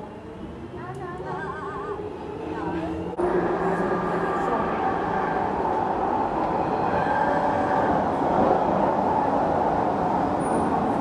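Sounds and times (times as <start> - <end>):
train rumbling in tunnel: 0.0 - 11.0.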